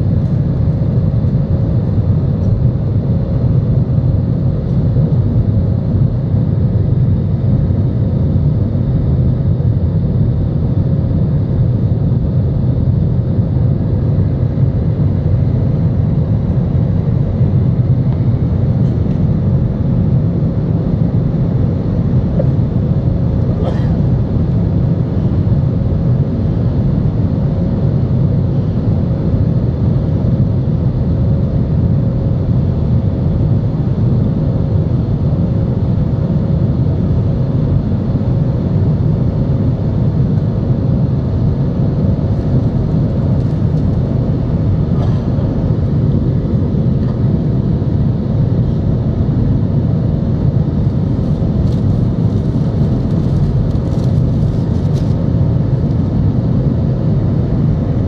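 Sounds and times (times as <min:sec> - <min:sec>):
faint steady hum: 0:00.0 - 0:58.0
jet engine drone: 0:00.0 - 0:58.0.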